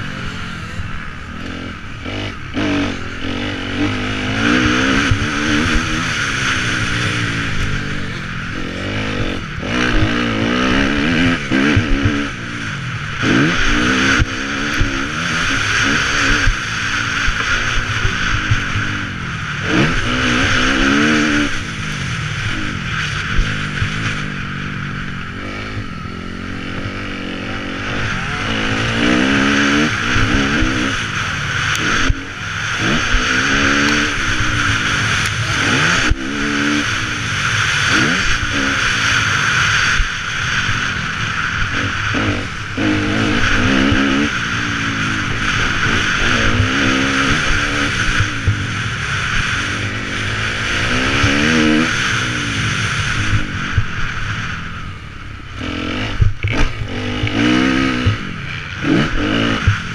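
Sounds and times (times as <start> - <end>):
motocross bike engine revving: 0.0 - 59.9
steady rush of noise: 0.0 - 59.9.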